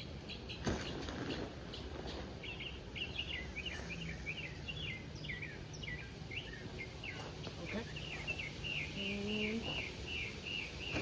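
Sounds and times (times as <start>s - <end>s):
songbird warbling chirps: 0.0s - 11.0s.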